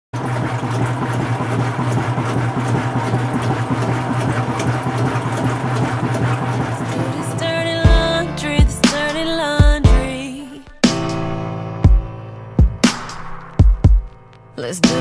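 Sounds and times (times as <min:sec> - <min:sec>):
washing machine running: 0:00.1 - 0:14.1.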